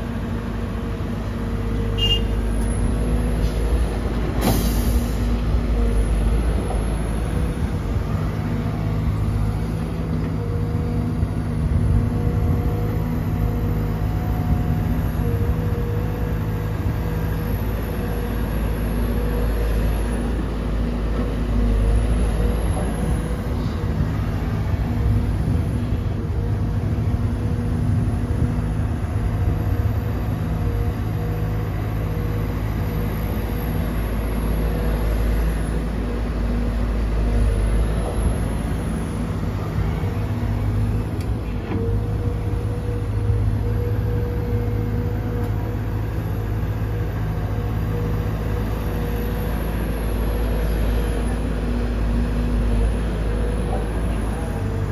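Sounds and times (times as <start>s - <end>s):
excavator diesel engine rumbling: 0.0s - 54.9s.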